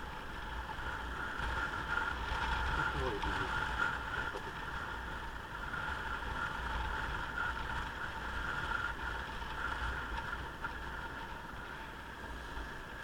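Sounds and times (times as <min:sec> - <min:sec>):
motorcycle engine drone: 0:00.0 - 0:13.0
road and wind noise: 0:00.0 - 0:13.0.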